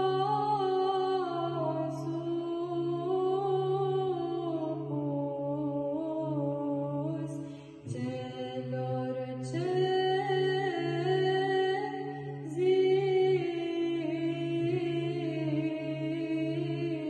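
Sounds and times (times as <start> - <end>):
low vocal drone: 0.0 - 17.0
woman singing chant: 0.0 - 17.0.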